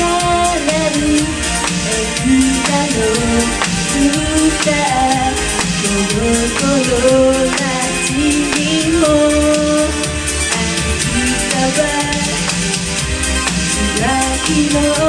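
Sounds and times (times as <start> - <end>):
pop song with steady beat: 0.0 - 15.0.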